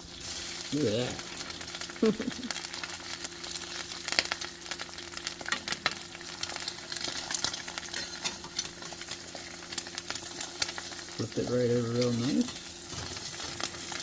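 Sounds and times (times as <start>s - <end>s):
eggs sizzling in a pan: 0.0s - 14.0s.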